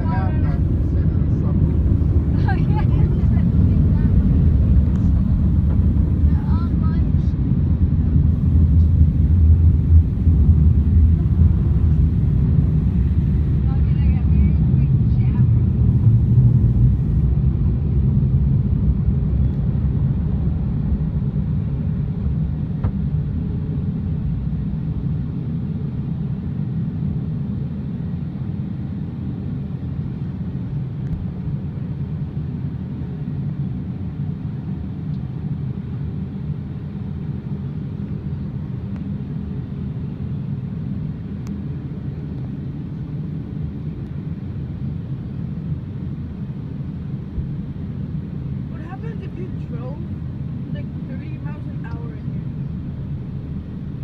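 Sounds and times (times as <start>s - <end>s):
muffled car wash machinery rumble: 0.0s - 25.4s, 31.0s - 54.0s.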